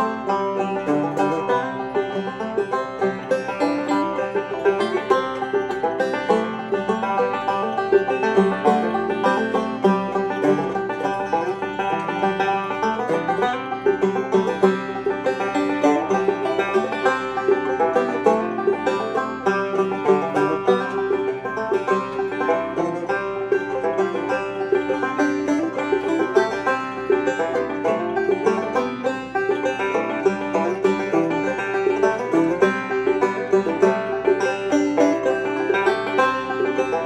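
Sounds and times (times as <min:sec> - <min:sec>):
banjos playing a fiddle tune: 0:00.0 - 0:37.0.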